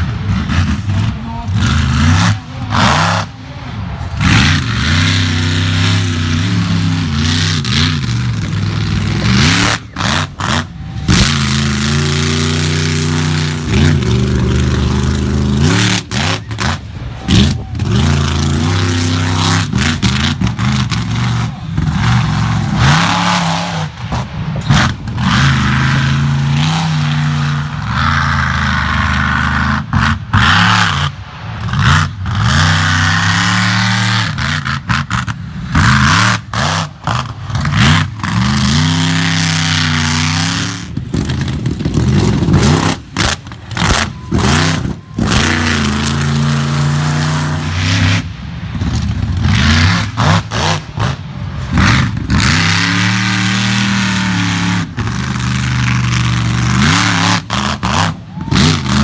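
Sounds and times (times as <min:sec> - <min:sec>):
monster truck engine revving: 0:00.0 - 0:59.0.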